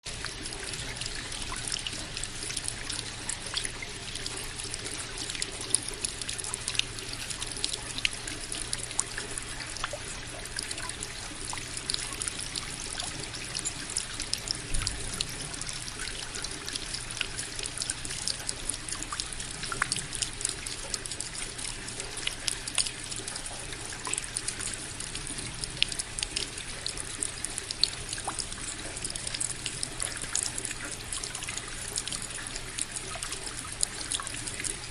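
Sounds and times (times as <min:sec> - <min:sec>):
fountain water trickling and splashing: 0:00.0 - 0:34.9.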